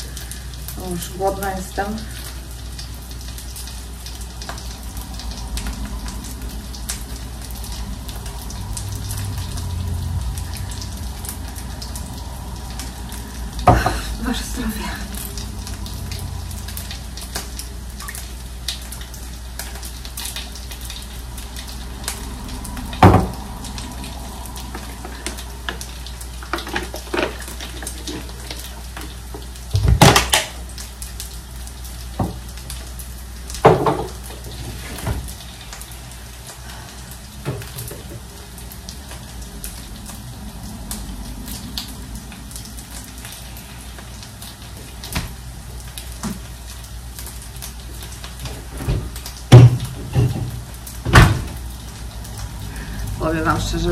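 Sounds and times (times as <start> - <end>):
food sizzling in a pan: 0.0 - 51.0.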